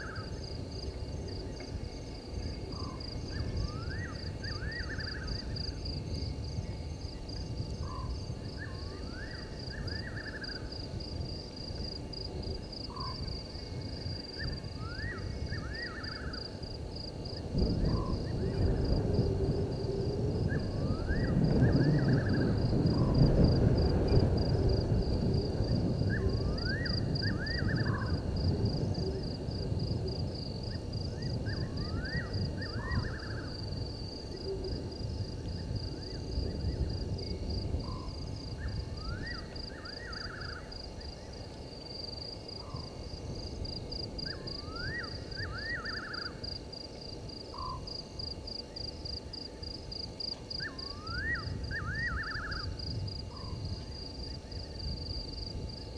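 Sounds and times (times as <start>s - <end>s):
pulsing insect trill: 0.0s - 55.9s.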